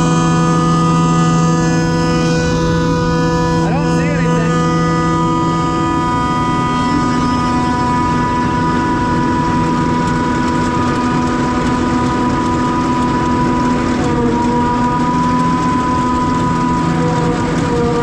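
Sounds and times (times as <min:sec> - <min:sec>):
harvester engine drone: 0:00.0 - 0:18.0
high-pitched cutterhead whine: 0:00.0 - 0:18.0.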